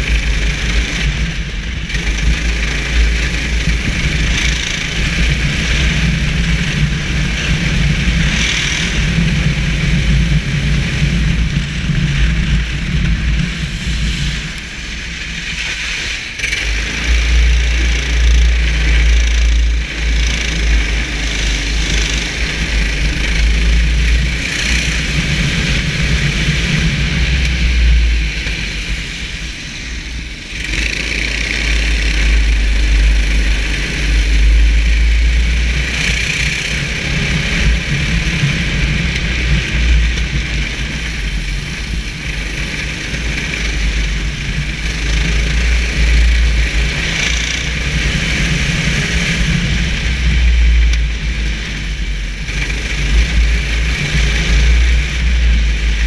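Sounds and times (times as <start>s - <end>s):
kart engine running at speed: 0.0s - 56.0s
wind buffeting on microphone: 0.0s - 56.0s.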